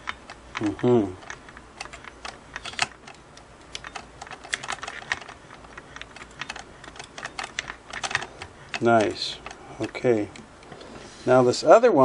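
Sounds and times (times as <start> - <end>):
screwdriver clicking on metal parts: 0.0 - 10.8.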